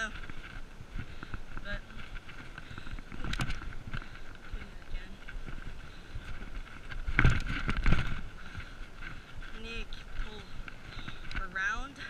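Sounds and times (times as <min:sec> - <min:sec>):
bike tyres rumbling on dirt: 0:00.0 - 0:11.9
wind on camera: 0:00.0 - 0:12.0.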